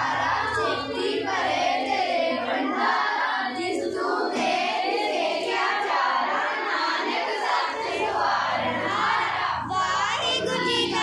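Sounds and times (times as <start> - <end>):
children singing a hymn: 0.0 - 11.0.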